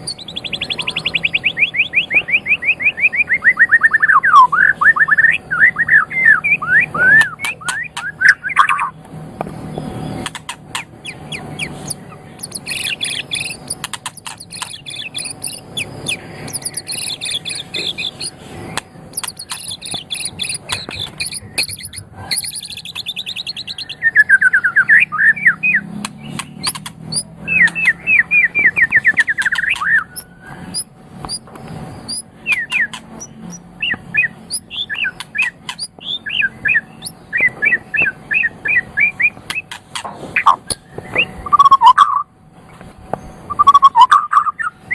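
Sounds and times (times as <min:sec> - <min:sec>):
songbird singing whistles and trills: 0:00.0 - 0:09.0, 0:09.7 - 0:39.8, 0:40.4 - 0:42.3, 0:43.2 - 0:44.9.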